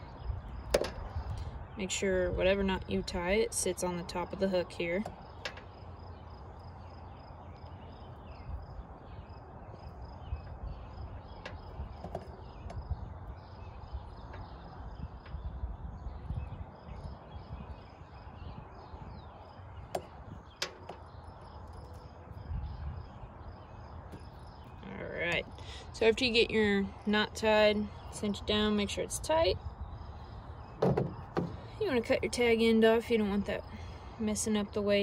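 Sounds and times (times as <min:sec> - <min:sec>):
wind rumble on microphone: 0:00.0 - 0:35.0
insect chorus: 0:02.5 - 0:35.0.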